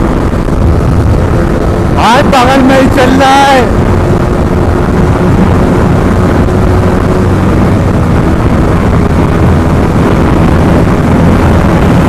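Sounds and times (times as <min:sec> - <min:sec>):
motorcycle engine at full throttle: 0:00.0 - 0:12.0
wind rush over microphone: 0:00.0 - 0:12.0.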